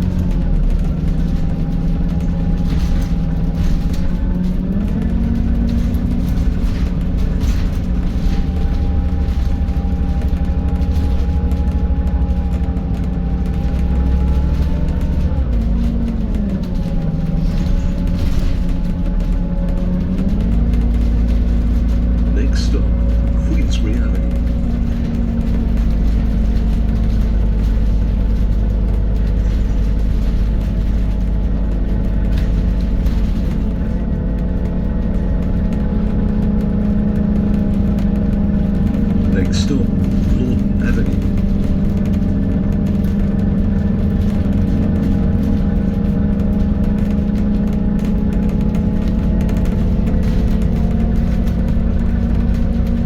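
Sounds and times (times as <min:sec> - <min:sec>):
bus engine rumble: 0:00.0 - 0:53.0.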